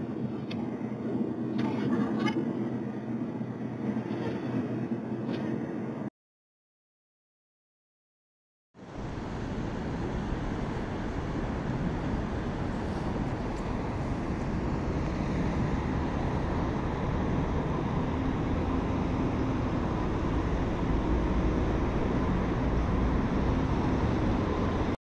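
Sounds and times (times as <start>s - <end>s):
road traffic noise: 0.0s - 5.9s, 8.8s - 25.0s.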